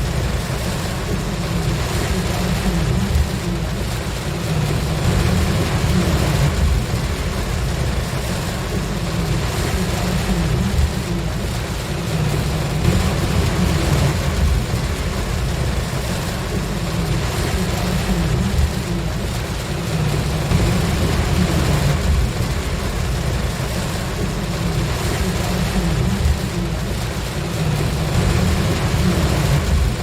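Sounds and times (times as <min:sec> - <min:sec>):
rain and spray hiss: 0:00.0 - 0:30.0
vehicle road and engine rumble: 0:00.0 - 0:30.0.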